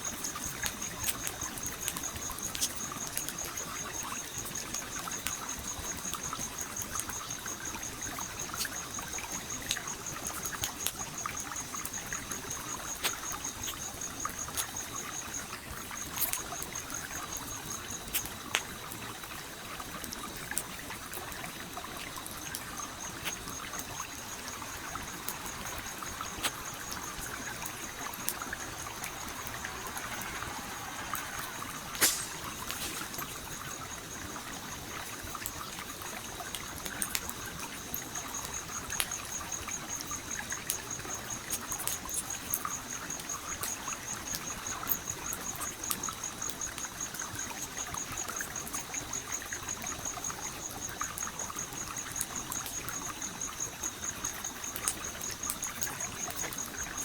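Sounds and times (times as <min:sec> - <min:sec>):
campfire crackling and popping: 0:00.0 - 0:57.0
stream water flowing: 0:00.0 - 0:57.0.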